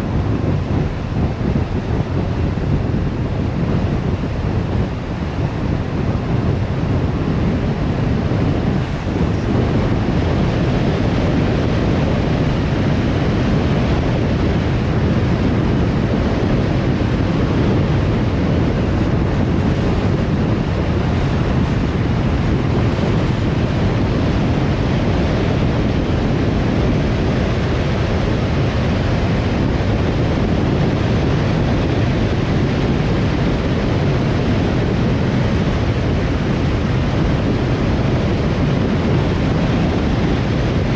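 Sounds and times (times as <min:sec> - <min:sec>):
car driving wind and road noise: 0:00.0 - 0:40.9.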